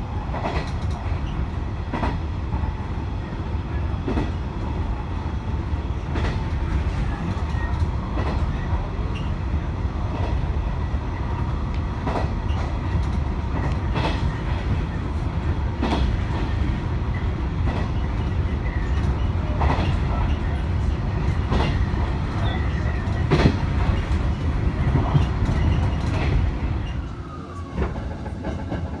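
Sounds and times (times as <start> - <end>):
train interior rumble: 0.0 - 29.0.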